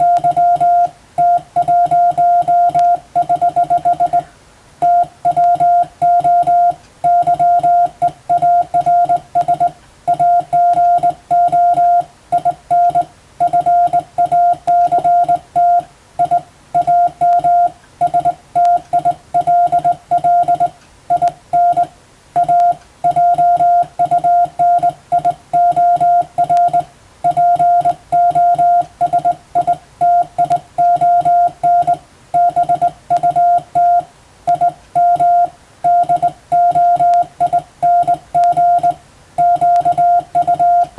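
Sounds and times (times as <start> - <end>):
morse code beeping: 0.0 - 40.9.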